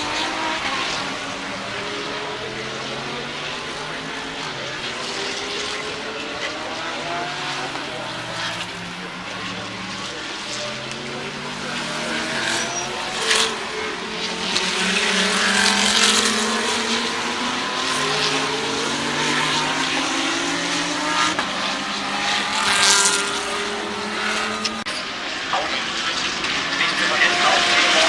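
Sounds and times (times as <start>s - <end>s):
race car engines at speed: 0.0s - 28.0s.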